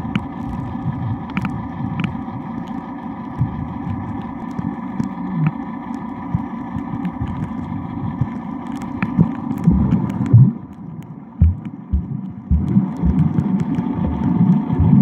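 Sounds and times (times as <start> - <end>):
faint steady hum: 0.0 - 15.0
underwater water rumble: 0.0 - 15.0.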